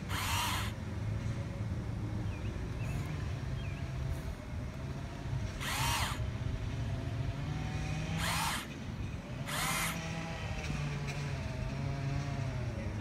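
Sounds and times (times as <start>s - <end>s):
electric gear motors whining: 0.0s - 0.8s, 2.7s - 12.4s.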